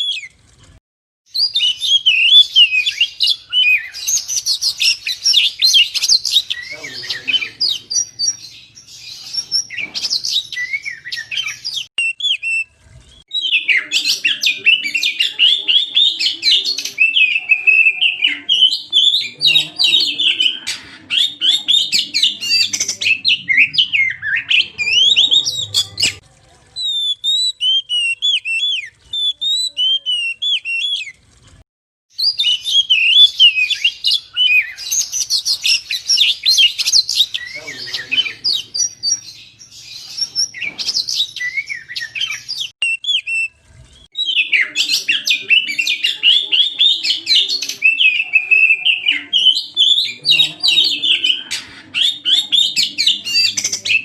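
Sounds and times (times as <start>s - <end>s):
bird singing chattering song: 1.3s - 26.2s, 26.8s - 31.2s, 32.2s - 54.0s.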